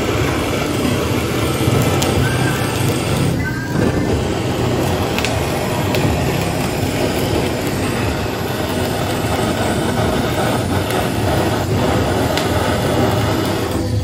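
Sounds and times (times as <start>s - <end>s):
torch flame rushing: 0.0s - 14.0s.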